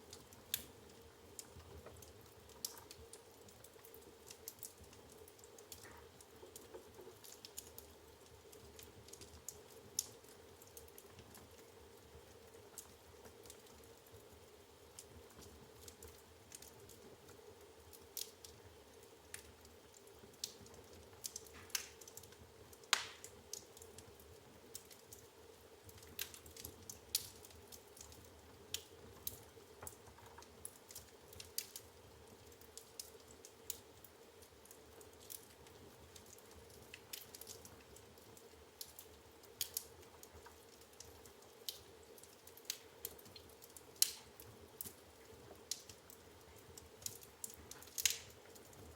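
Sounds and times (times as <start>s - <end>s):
firewood crackling and popping: 0.0s - 48.9s.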